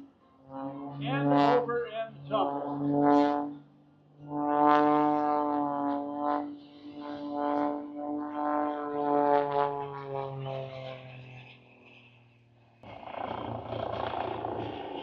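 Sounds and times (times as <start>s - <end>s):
airplane propeller engine droning: 0.0s - 15.0s.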